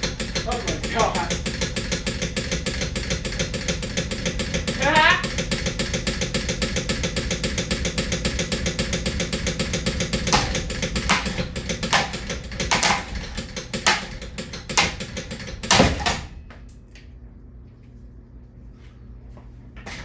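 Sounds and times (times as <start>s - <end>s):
rapid mechanical clicking: 0.0s - 16.8s.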